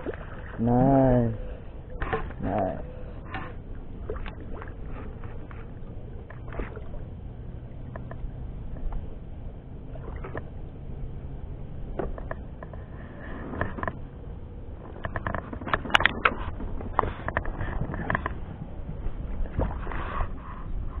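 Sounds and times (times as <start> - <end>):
wind and water rumble: 0.0 - 21.0.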